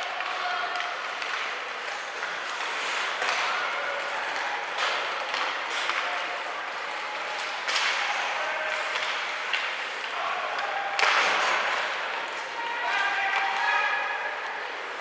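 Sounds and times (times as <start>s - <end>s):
crowd noise: 0.0s - 15.0s
skates on ice: 0.1s - 12.7s.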